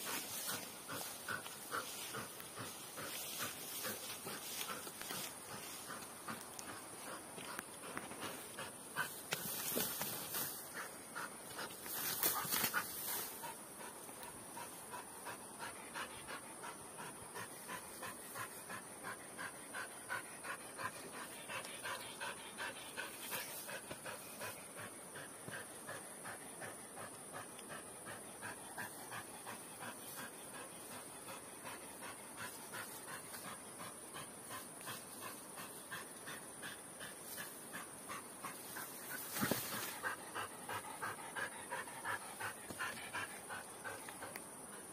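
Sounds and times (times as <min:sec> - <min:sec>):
dog panting: 0:00.0 - 0:44.9.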